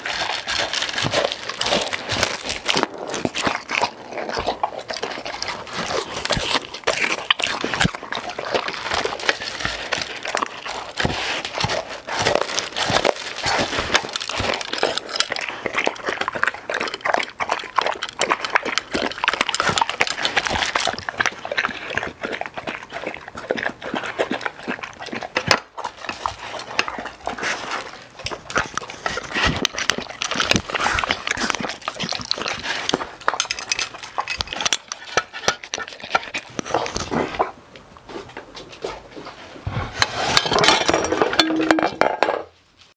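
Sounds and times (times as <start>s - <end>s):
dog crunching kibble: 0.0s - 42.3s.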